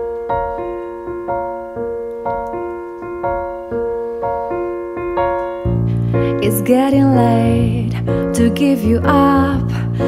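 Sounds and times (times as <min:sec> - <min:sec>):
digital piano single notes: 0:00.0 - 0:08.8.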